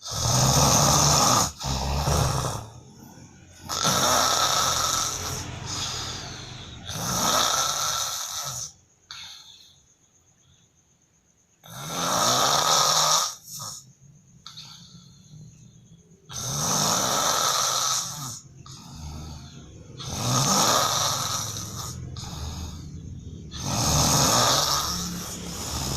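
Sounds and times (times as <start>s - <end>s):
man snoring loudly: 0.0s - 9.4s, 11.6s - 13.8s, 16.3s - 25.9s.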